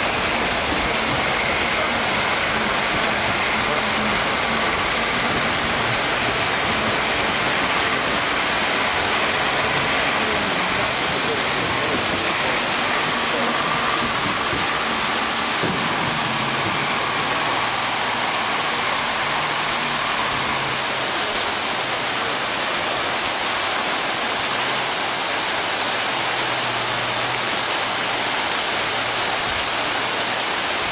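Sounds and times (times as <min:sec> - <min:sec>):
rushing river water: 0:00.0 - 0:30.9.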